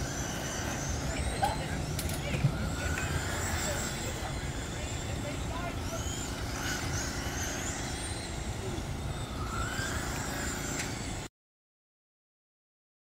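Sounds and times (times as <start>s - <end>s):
rc car motors whining: 0.0s - 11.3s.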